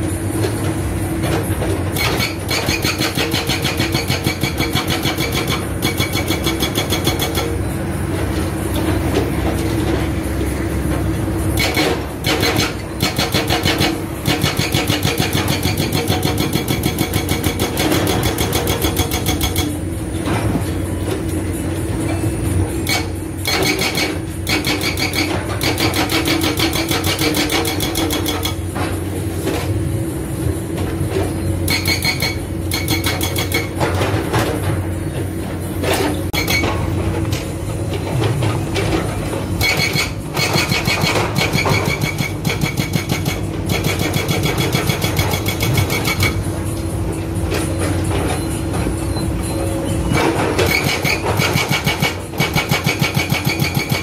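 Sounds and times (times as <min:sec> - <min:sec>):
diesel engine running: 0:00.0 - 0:54.0
hydraulic breaker hammering: 0:01.4 - 0:07.6, 0:11.4 - 0:20.7, 0:22.1 - 0:29.7, 0:31.6 - 0:35.0, 0:35.8 - 0:49.2, 0:50.0 - 0:54.0.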